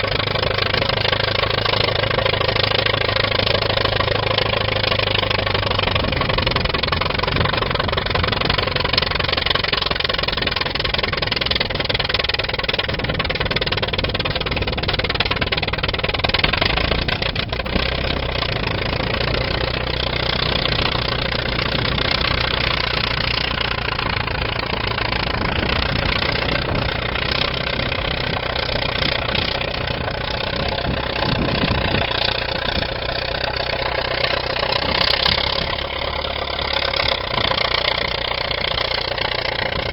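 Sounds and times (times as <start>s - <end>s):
bulldozer engine running: 0.0s - 39.9s.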